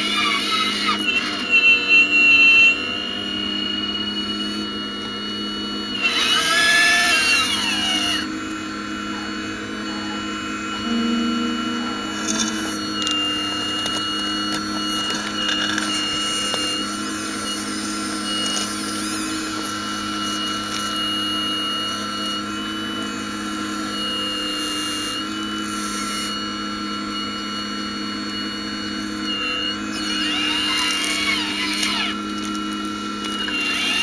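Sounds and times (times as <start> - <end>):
model excavator motors whining: 0.0 - 34.0.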